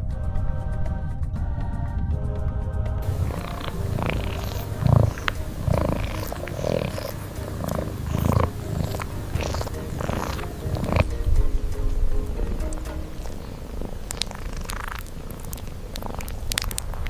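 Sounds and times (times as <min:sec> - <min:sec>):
cat purring: 0:03.0 - 0:17.0.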